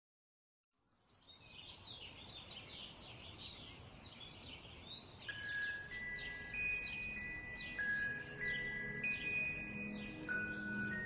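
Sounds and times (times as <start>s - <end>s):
faint outdoor hiss: 0.8s - 11.0s
songbirds chirping: 0.8s - 11.0s.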